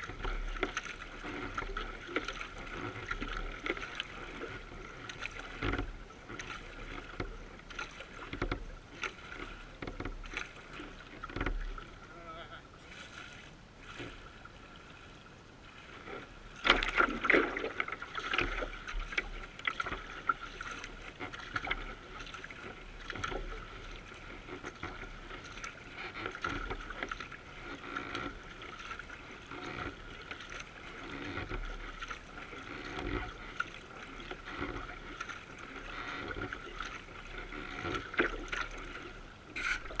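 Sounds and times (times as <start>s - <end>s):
water splashing along canoe hull: 0.0s - 40.0s.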